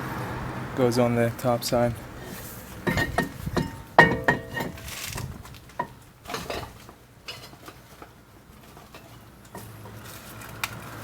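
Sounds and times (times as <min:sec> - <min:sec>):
metal brake pads clinking: 0:01.0 - 0:10.8.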